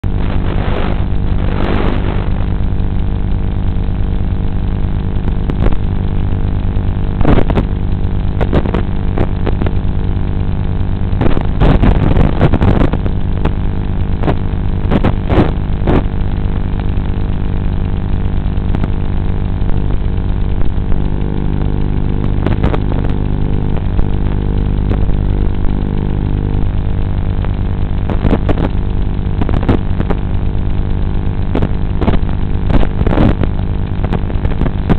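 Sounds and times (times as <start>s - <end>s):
radio interference crackles: 0.0s - 34.9s.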